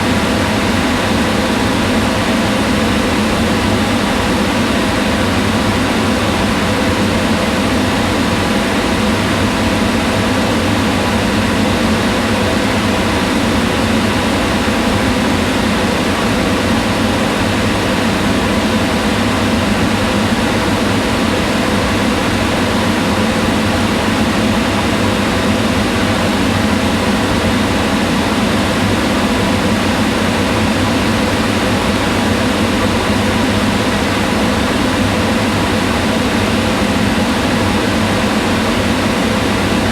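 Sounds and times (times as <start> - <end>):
range hood fan whirring: 0.0 - 39.9.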